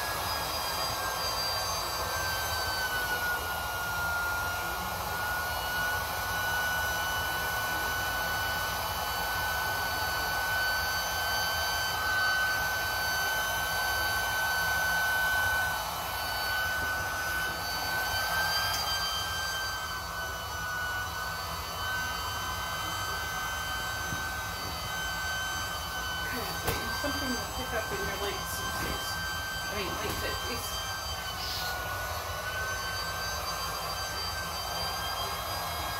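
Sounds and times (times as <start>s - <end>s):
electric air pump running: 0.0s - 35.9s.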